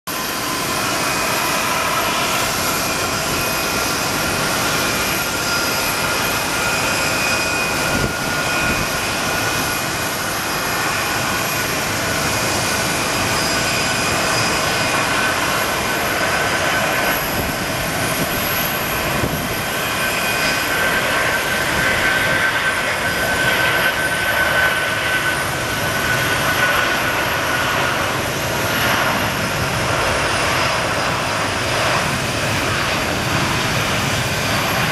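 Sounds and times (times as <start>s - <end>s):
jet engines rushing and whining: 0.1s - 34.9s.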